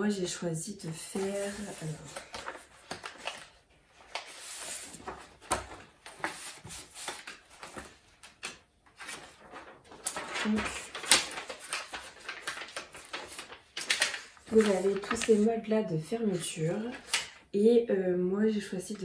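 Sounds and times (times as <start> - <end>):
paper rustling and crackling: 0.9 - 17.5.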